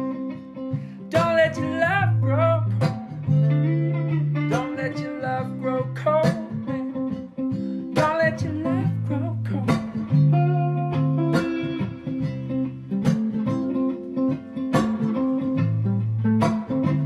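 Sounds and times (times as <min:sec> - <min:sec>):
guitar-led song with beat: 0:00.0 - 0:17.0.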